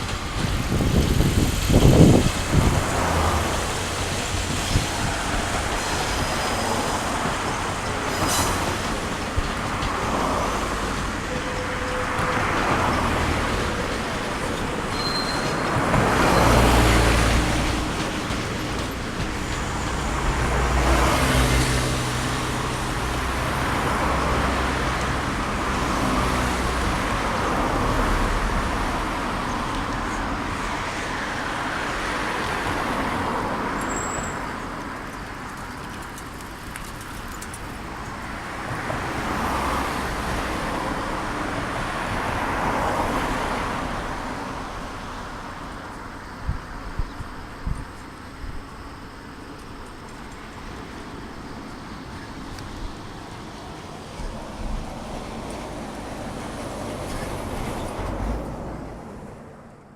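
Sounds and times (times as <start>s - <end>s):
vehicles passing by: 0.0s - 59.9s.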